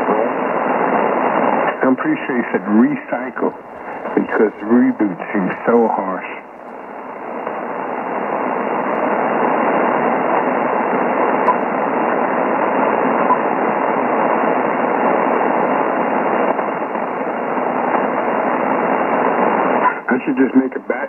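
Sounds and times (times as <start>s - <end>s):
raspy radio interference hiss: 0.0s - 21.0s.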